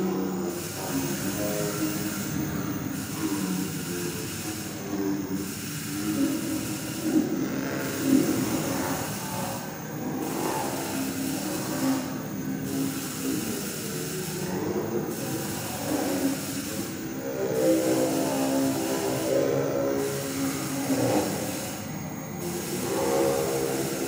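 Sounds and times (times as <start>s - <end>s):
hissing electronic drone music: 0.0s - 24.0s.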